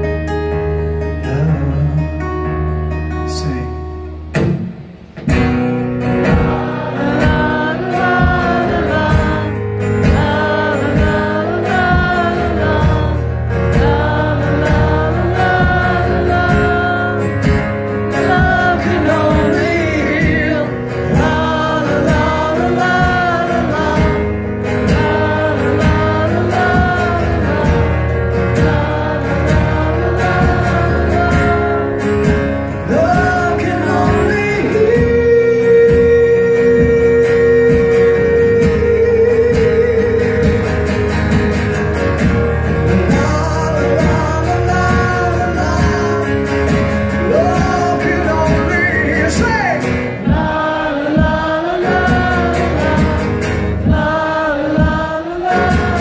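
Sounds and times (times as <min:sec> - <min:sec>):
strummed acoustic guitar: 0:00.0 - 0:56.0
man singing: 0:01.0 - 0:04.2, 0:06.0 - 0:41.3, 0:42.8 - 0:56.0.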